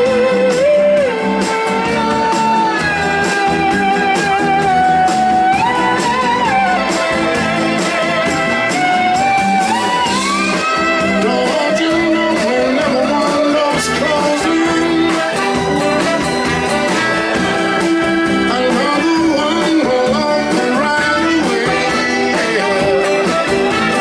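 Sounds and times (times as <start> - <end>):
blues-rock band playing: 0.0 - 24.0
sliding lead guitar line: 0.0 - 24.0.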